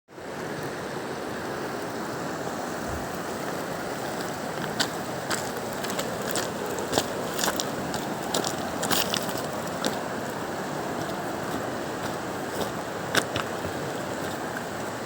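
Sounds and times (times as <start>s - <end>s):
river rushing: 0.1s - 15.0s.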